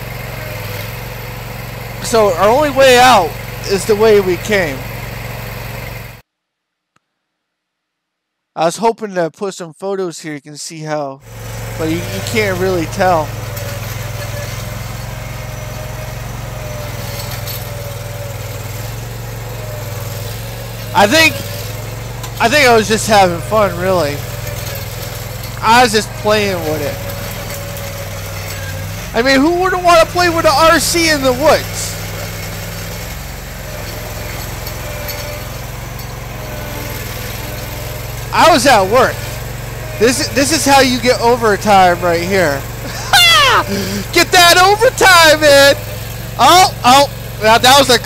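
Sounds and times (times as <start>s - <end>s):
engine running: 0.0s - 6.2s, 11.2s - 48.0s.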